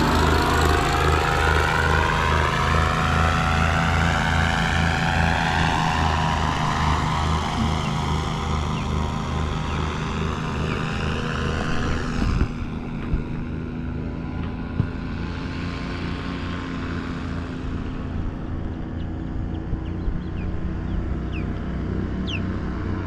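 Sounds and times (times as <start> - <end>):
paramotor engines droning overhead: 0.0 - 23.0.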